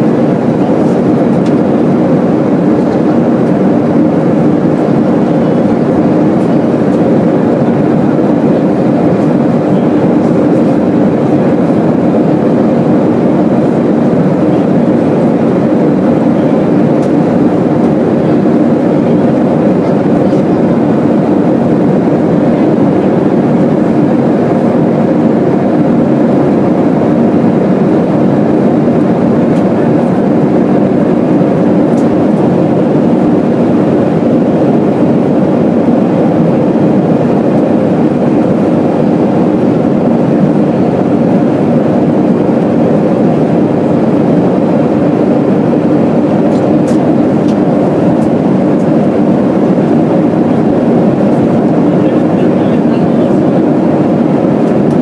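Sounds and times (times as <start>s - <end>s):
airplane cabin drone: 0.0s - 55.0s.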